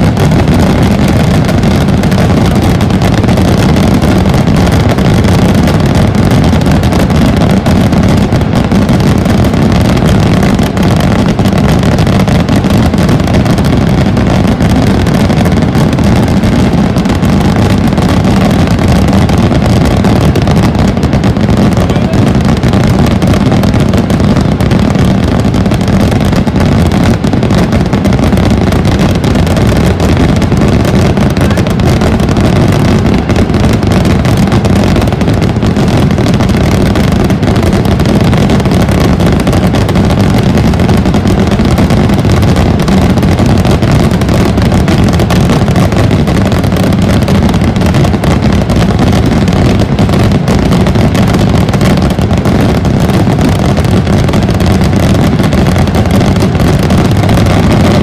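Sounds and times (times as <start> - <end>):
firework rockets bursting: 0.0 - 58.0.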